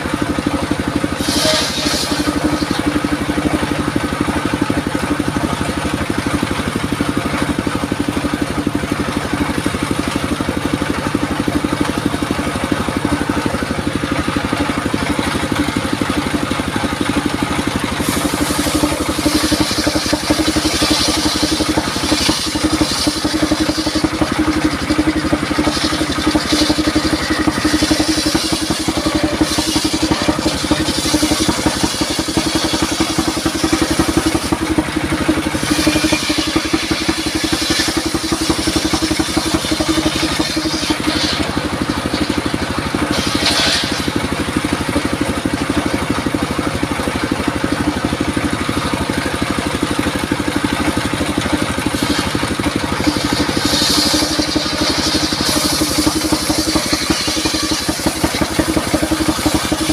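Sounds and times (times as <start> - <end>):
circular saw engine running: 0.0 - 59.9
saw blade cutting wood: 0.0 - 59.9.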